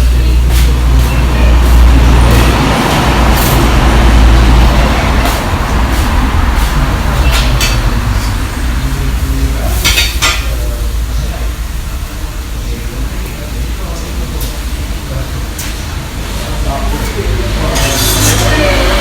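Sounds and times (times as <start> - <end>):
cooking hiss: 0.0 - 19.0
kitchen low rumble: 0.0 - 19.0.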